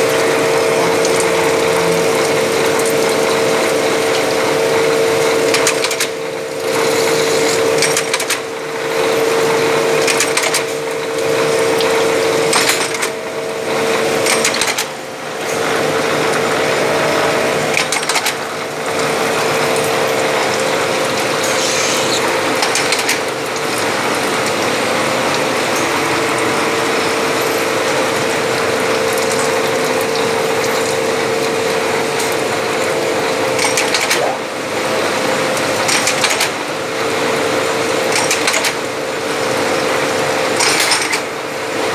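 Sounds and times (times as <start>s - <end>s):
lathe clicking and rattling: 0.0s - 39.0s, 40.5s - 41.3s.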